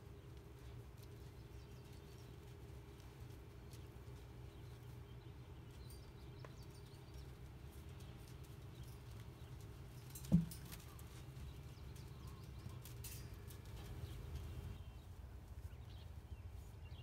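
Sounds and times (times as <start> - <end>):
hooves on sand: 0.0 - 17.0.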